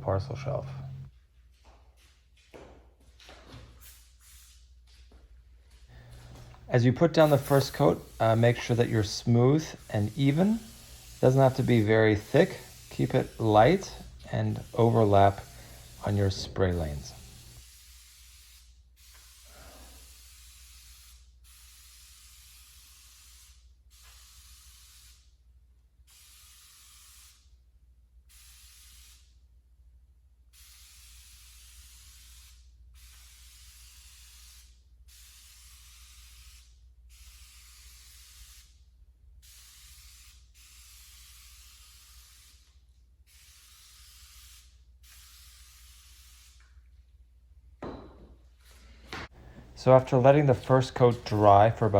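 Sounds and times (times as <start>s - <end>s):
aerosol can spraying: 3.5s - 5.0s, 6.0s - 25.4s, 26.1s - 27.6s, 28.3s - 29.4s, 30.5s - 46.9s, 49.8s - 51.9s.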